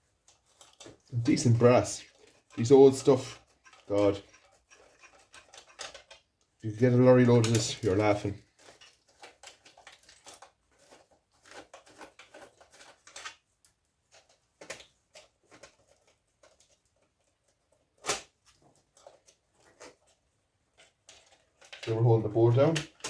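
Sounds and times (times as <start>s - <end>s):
small parts clicking and rattling: 0.0s - 23.0s.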